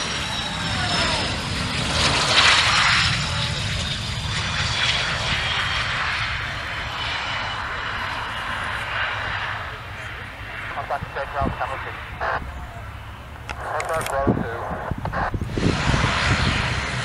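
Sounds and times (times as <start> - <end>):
jet engine climbing away: 0.0 - 17.0.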